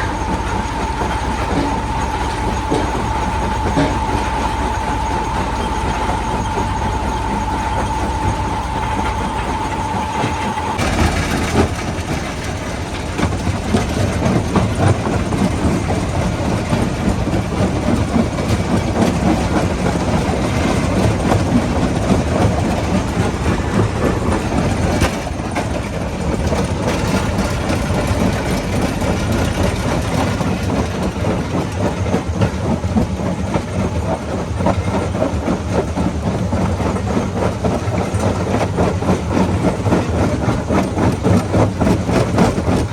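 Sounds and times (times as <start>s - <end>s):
rock crusher clattering rumble: 0.0s - 42.9s
steady machine whine: 0.0s - 42.9s.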